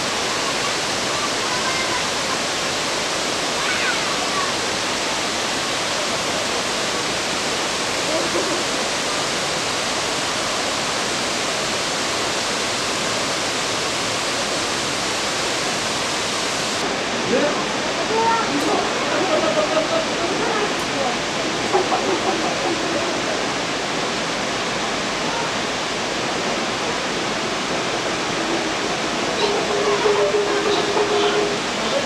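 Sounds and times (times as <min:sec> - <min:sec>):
river flowing over stones: 0:00.0 - 0:32.0
waterfall spray: 0:00.0 - 0:32.0.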